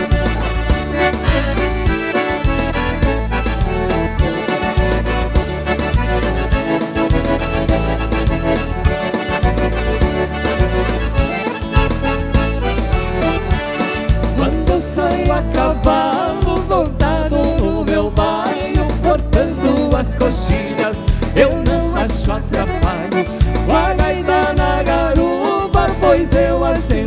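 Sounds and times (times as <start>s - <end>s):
accordion playing lively tune: 0.0s - 27.0s
bass line: 0.0s - 27.0s
drum beat: 0.0s - 27.0s.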